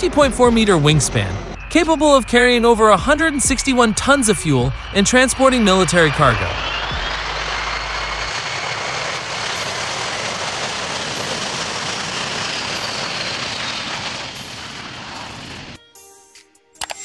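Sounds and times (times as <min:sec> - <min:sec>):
jet engines at takeoff: 0:00.0 - 0:15.8.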